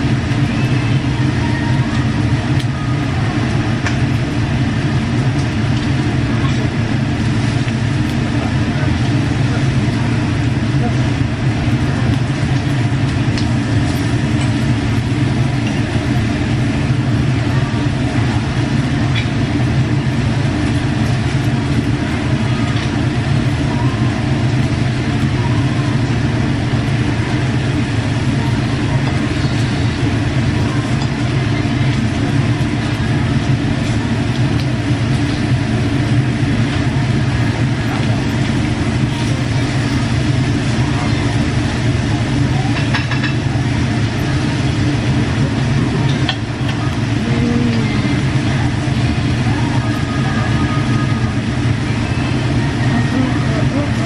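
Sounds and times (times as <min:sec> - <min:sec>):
exhaust ventilation rumbling: 0:00.0 - 0:54.0
meat sizzling on a grill: 0:00.0 - 0:54.0.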